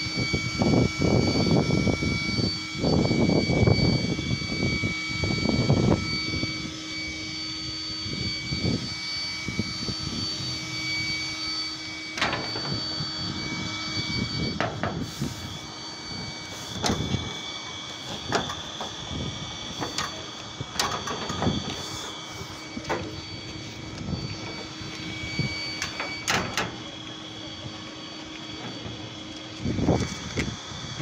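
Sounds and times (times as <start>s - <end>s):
fan whine with high tones: 0.0s - 31.0s.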